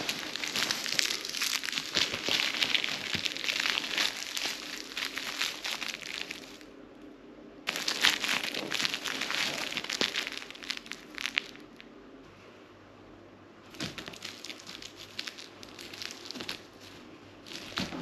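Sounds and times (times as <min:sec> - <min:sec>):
straw toy crinkling and rustling: 0:00.0 - 0:06.7, 0:07.7 - 0:11.9, 0:13.7 - 0:18.0.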